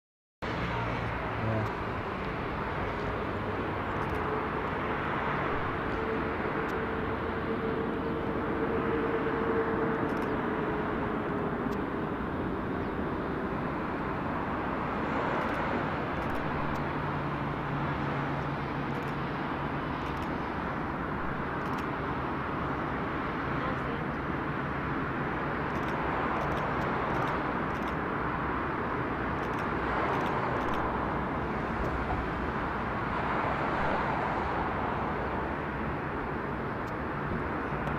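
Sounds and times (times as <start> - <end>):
jet engines at taxi power: 0.4 - 37.9.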